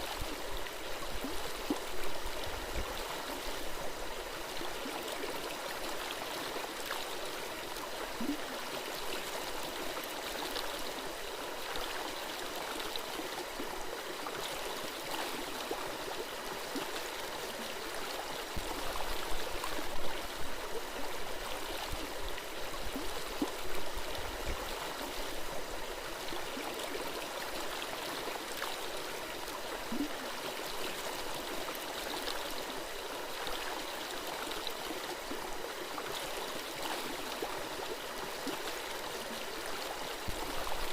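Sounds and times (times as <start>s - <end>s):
stream babbling: 0.0s - 40.9s.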